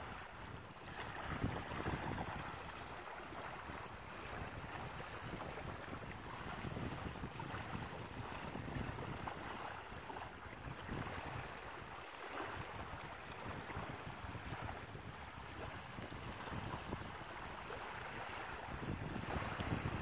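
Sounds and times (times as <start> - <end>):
small waves lapping: 0.0 - 20.0
wind buffeting microphone: 0.0 - 20.0.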